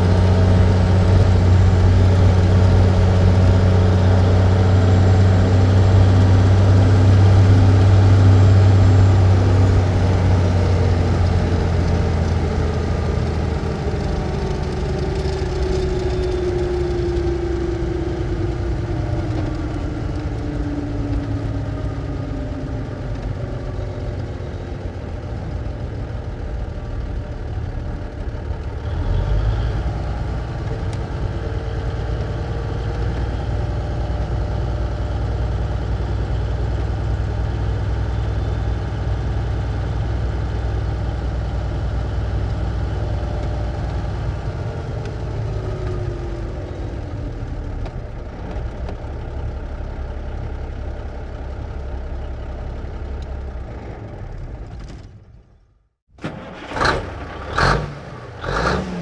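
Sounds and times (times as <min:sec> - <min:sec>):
truck engine running: 0:00.0 - 0:55.6, 0:56.2 - 0:59.0.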